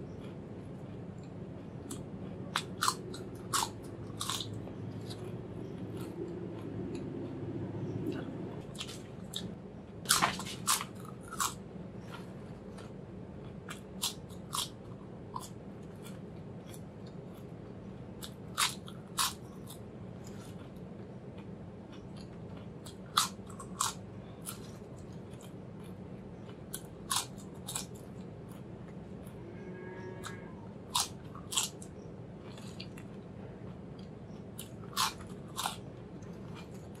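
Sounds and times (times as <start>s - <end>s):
faint low hum: 0.0s - 37.0s
potato chips crunching: 0.1s - 7.4s, 8.6s - 17.5s, 18.2s - 28.6s, 30.9s - 37.0s.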